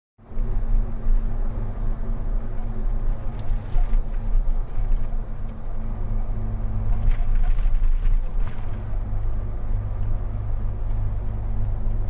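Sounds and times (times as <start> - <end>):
car engine rumbling: 0.2 - 12.0.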